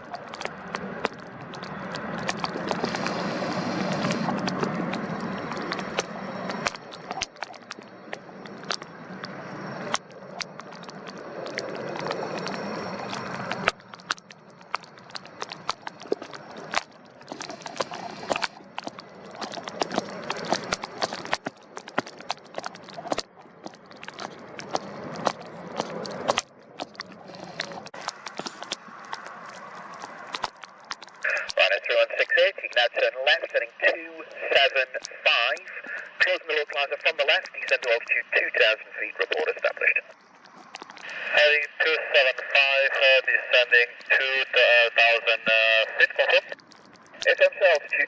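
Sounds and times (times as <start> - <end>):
sharp crackles and pops: 0.0 - 48.0.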